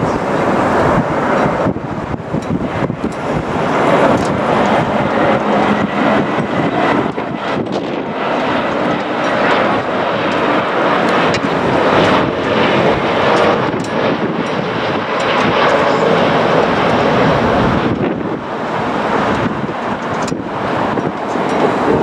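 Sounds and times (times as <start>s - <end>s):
jet engines roaring: 0.0s - 22.0s
wind buffeting microphone: 0.0s - 22.0s.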